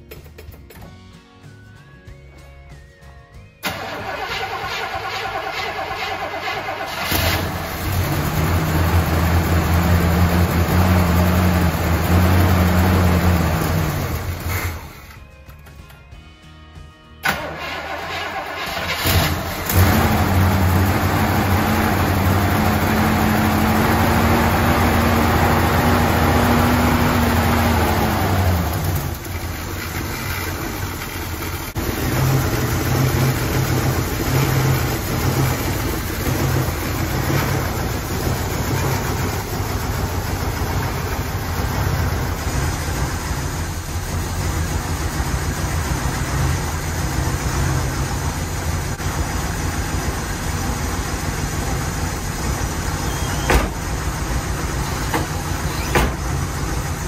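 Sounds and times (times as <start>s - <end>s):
car engine cranking and idling: 3.6s - 15.7s, 17.2s - 57.0s.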